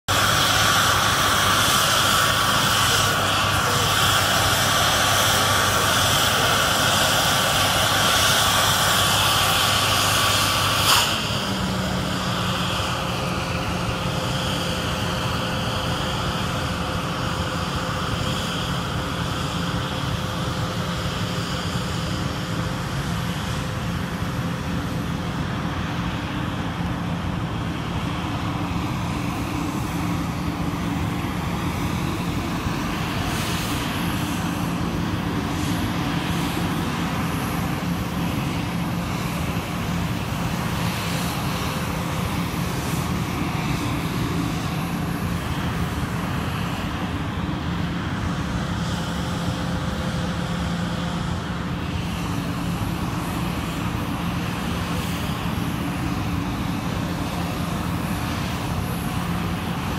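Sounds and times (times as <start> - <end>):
jet engines whining: 0.0 - 59.9
low engine hum: 0.1 - 59.9.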